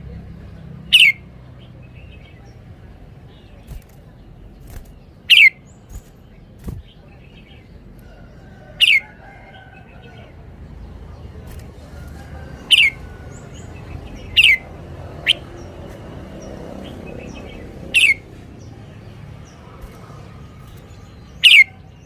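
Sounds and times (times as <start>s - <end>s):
soft bird chirps: 0.6s - 22.0s.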